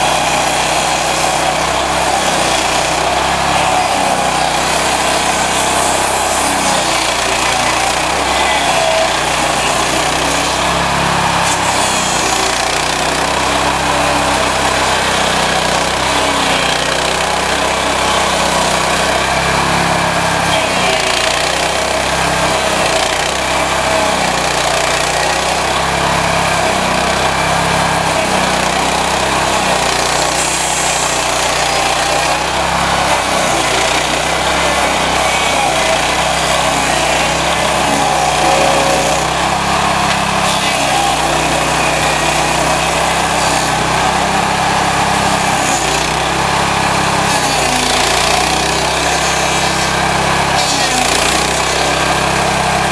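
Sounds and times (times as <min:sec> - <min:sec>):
cutting wheel grinding wood: 0:00.0 - 0:52.9
stump grinder engine running: 0:00.0 - 0:52.9.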